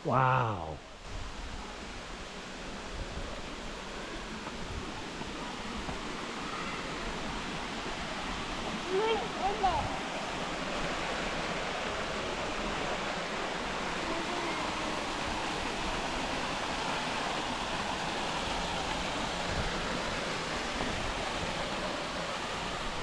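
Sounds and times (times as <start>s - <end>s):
waterfall rushing: 0.5s - 23.0s.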